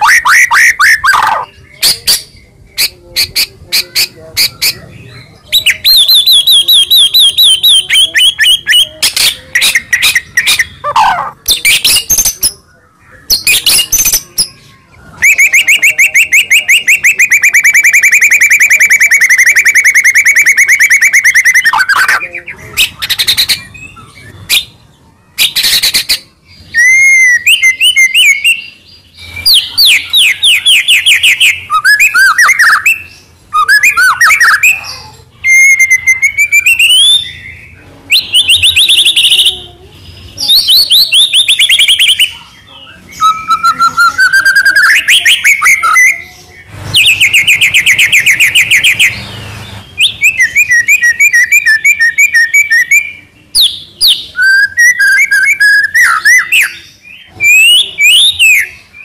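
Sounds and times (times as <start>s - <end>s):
songbird singing trills and whistles: 0.0s - 59.0s.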